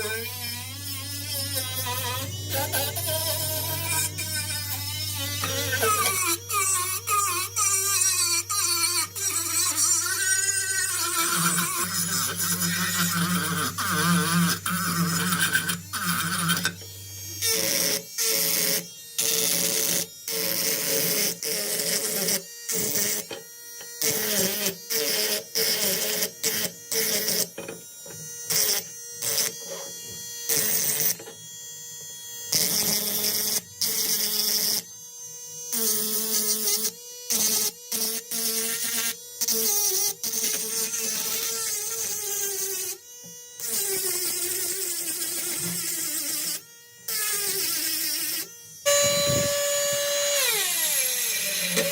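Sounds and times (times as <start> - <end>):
power tool motor whining: 0.0 - 51.9.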